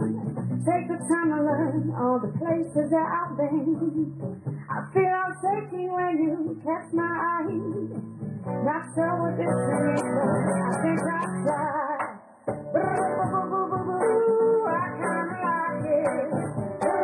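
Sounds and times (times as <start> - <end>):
woman singing into a microphone: 0.0 - 16.6
guitar accompaniment: 0.0 - 17.0.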